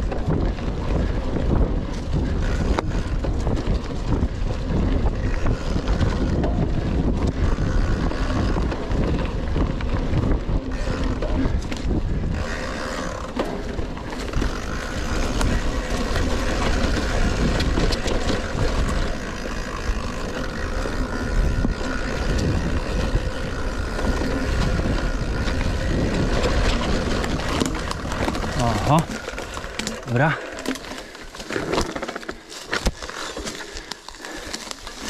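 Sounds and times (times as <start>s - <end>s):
bike rattling and clicking: 0.0s - 35.0s
tyres rumbling on trail: 0.0s - 35.0s.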